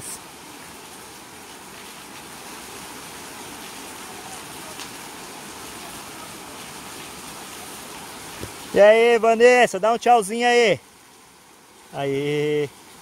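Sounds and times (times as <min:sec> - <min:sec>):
waterfall rushing: 0:00.0 - 0:11.0, 0:11.9 - 0:13.0.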